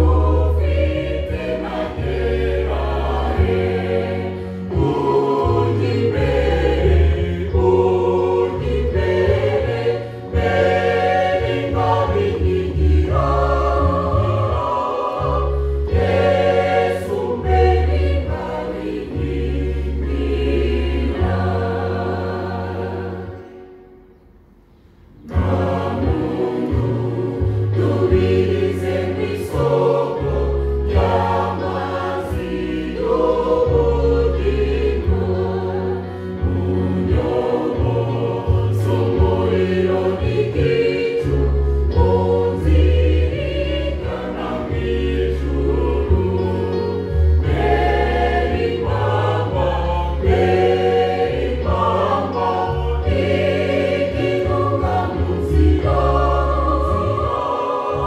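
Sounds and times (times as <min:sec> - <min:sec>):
electronic keyboard bass notes: 0:00.0 - 0:23.6, 0:25.3 - 0:58.0
choir singing a hymn: 0:00.0 - 0:23.9, 0:25.2 - 0:58.0.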